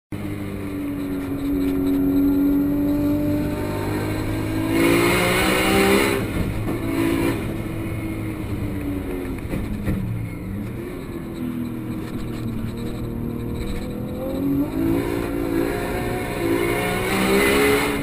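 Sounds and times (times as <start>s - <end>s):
race car engine under load: 0.1s - 18.0s.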